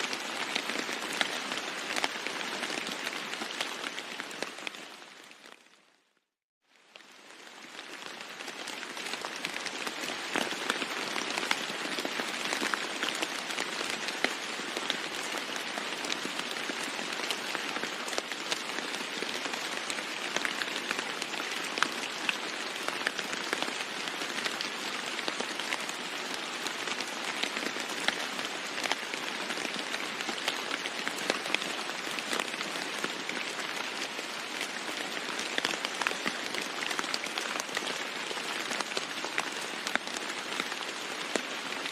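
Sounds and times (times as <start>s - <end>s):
heavy rain on a roof: 0.0s - 41.9s.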